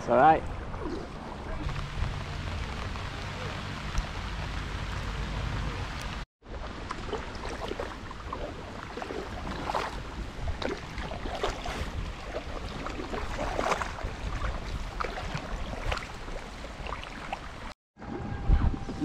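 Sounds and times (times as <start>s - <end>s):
wind rumble on microphone: 0.0s - 19.0s
paddles splashing in water: 0.6s - 17.8s.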